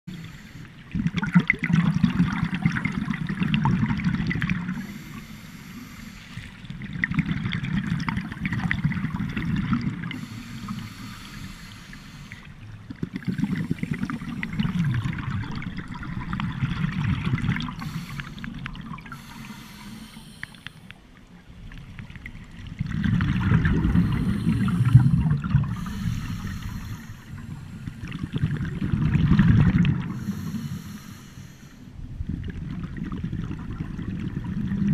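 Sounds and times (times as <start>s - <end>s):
regulator exhaust bubbles underwater: 0.1s - 5.3s, 6.4s - 11.6s, 12.3s - 31.1s, 31.9s - 34.9s.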